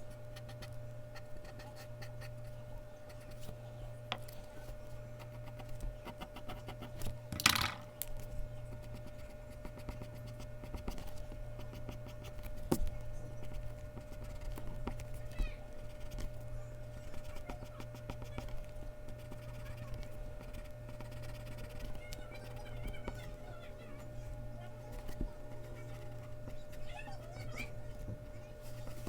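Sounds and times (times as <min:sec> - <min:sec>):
pencil scratching on paper: 0:00.3 - 0:03.6, 0:05.2 - 0:07.1, 0:08.7 - 0:23.4, 0:24.0 - 0:27.8, 0:28.6 - 0:29.0.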